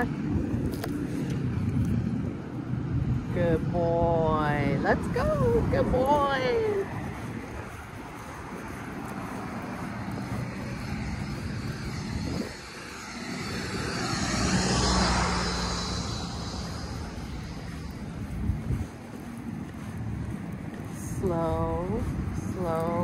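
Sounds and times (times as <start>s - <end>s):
motor vehicle passing by: 0.0s - 23.0s.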